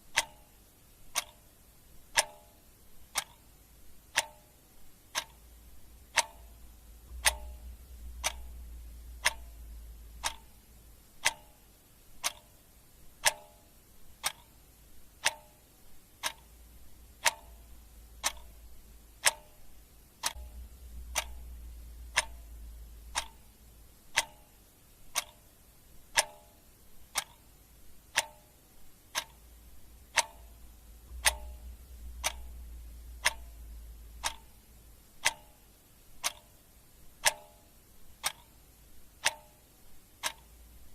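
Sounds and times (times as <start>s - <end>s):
clock ticking: 0.0s - 40.9s
faint low rumble: 0.0s - 40.9s.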